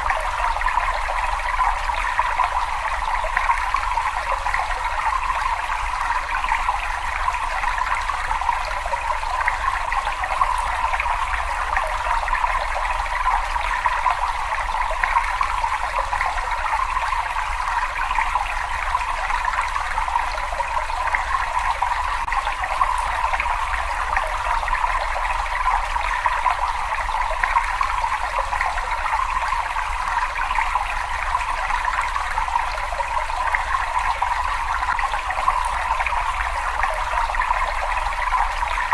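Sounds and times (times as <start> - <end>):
water flowing and trickling: 0.0 - 38.9.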